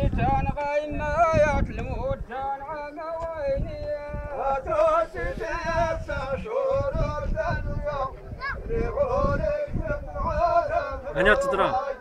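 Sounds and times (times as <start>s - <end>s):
man singing folk song: 0.0s - 12.0s.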